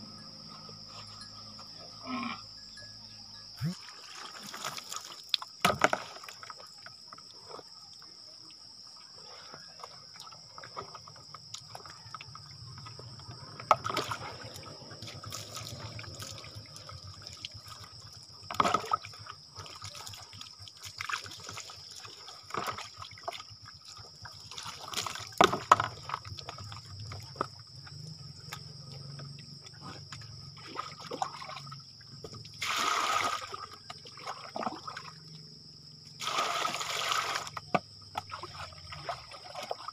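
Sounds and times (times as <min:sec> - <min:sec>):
water splashing and trickling: 0:03.6 - 0:39.9.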